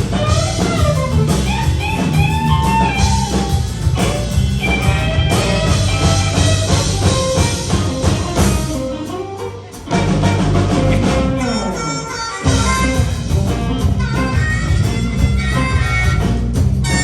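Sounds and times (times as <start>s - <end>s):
blues band playing: 0.0s - 17.0s
sliding falling guitar notes: 0.0s - 17.0s.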